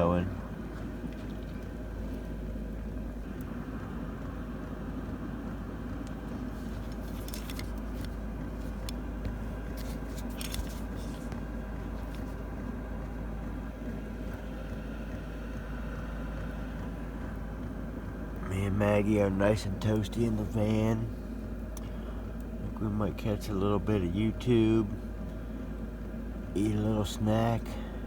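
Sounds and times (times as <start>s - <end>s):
motor droning: 0.0s - 28.0s.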